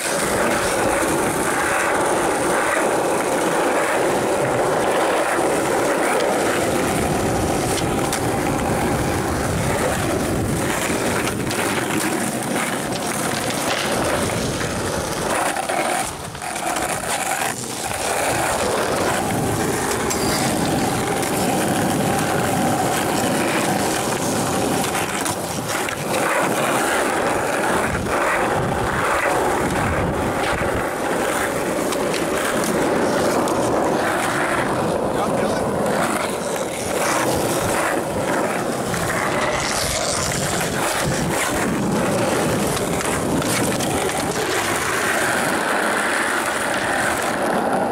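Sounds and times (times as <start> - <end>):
skateboard clacks: 0.0 - 47.9
skateboard wheels rolling on asphalt: 0.0 - 47.9.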